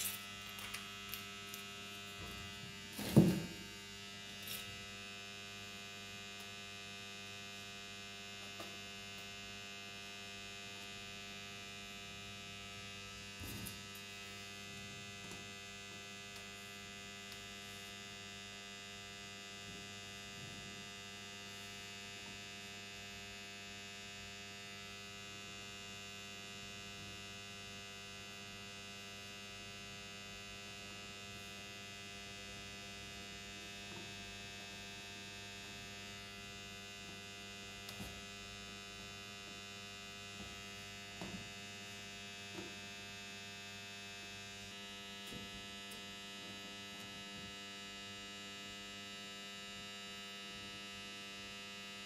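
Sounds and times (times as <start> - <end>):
faint electrical mains hum: 0.0 - 52.0.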